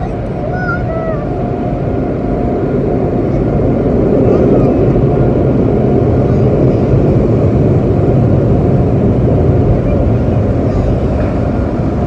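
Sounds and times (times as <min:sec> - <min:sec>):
car wash noise from inside car: 0:00.0 - 0:12.0.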